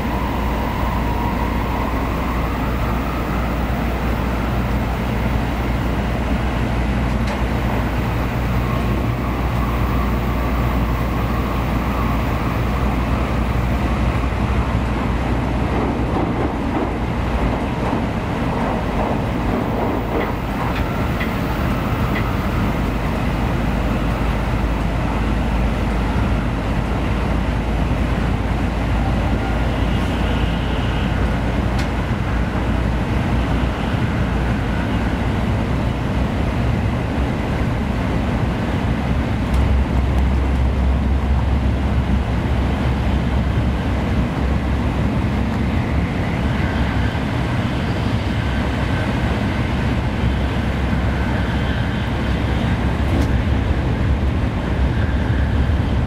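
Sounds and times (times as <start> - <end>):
train cabin deep rumble: 0.0 - 56.0.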